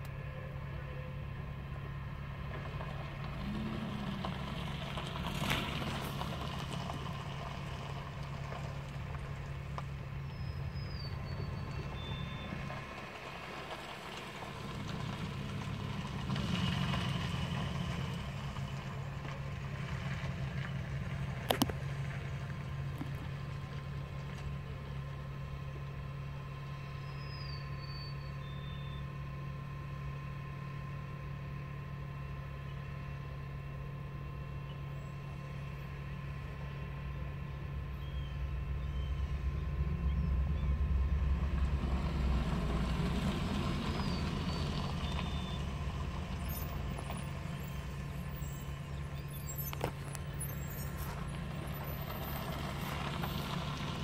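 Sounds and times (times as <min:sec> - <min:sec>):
engine droning: 0:00.0 - 0:54.0.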